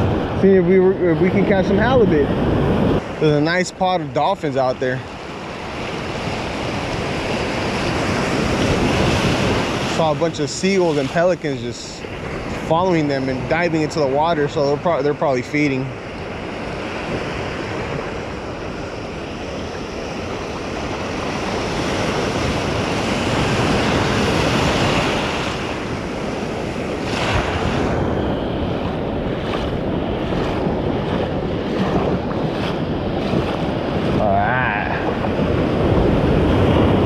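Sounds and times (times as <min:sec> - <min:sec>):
surf breaking: 0:00.0 - 0:37.0
wind buffeting microphone: 0:00.0 - 0:37.0.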